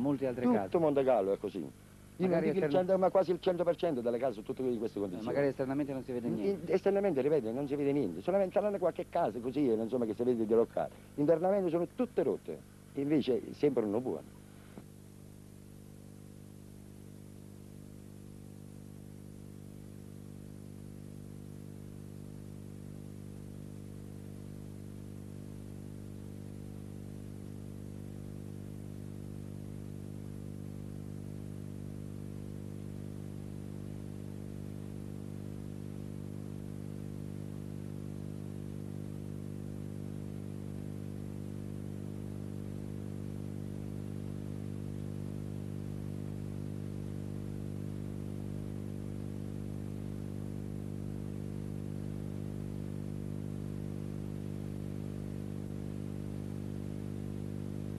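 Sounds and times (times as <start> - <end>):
faint hiss: 0.0 - 57.9
low electrical hum: 0.0 - 57.9.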